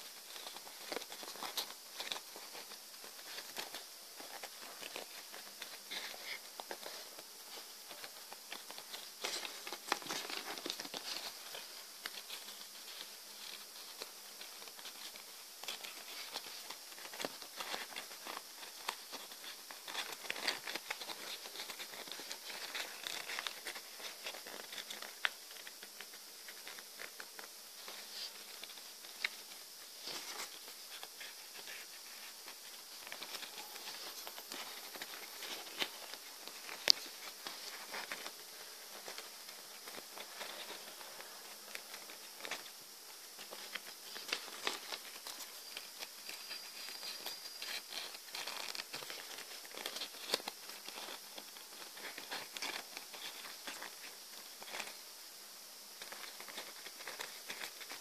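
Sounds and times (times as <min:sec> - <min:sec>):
paper rustling and crinkling: 0:00.0 - 0:55.1, 0:55.8 - 0:58.0.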